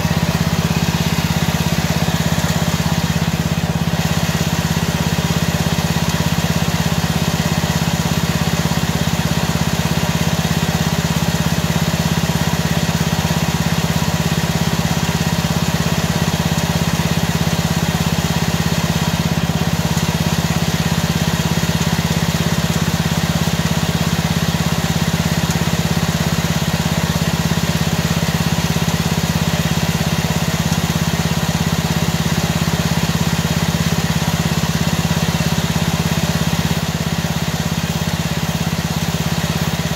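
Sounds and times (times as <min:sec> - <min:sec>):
lawn mower engine idling: 0:00.0 - 0:39.9.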